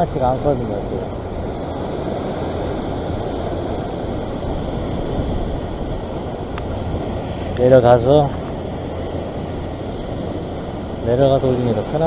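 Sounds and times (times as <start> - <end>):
ocean surf washing over rocks: 0.0 - 12.0.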